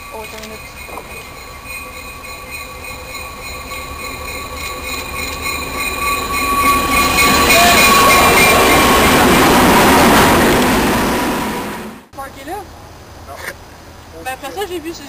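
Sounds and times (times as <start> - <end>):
diesel locomotive passing: 0.0 - 12.6.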